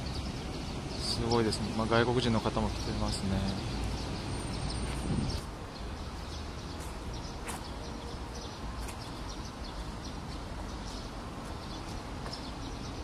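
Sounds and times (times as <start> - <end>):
birds chirping: 0.0 - 13.0
steady outdoor hiss: 0.0 - 13.0.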